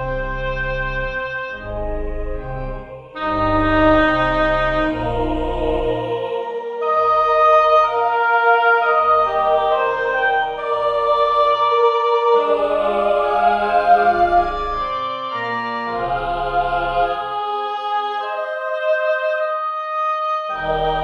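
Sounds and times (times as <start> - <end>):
organ playing sustained chords: 0.0 - 21.0.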